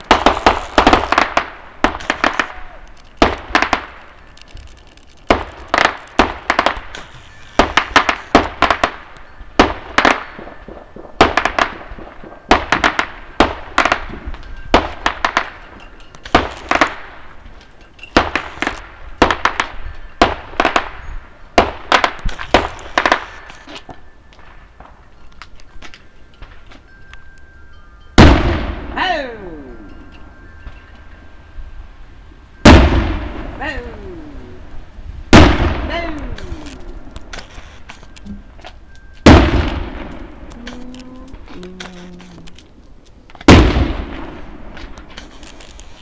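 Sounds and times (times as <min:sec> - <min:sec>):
fireworks bangs and crackles: 0:00.0 - 0:26.9, 0:28.2 - 0:29.2, 0:30.1 - 0:46.0.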